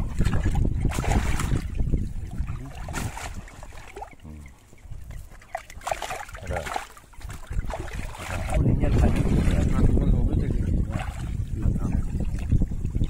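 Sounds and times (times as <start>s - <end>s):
water sloshing and splashing: 0.0s - 13.0s
wind on microphone: 0.0s - 13.0s.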